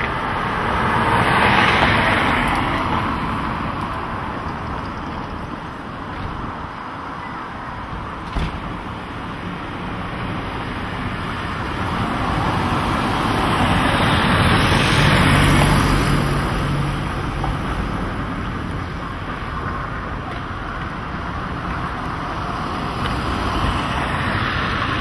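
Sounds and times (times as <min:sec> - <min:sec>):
street traffic: 0:00.0 - 0:25.0.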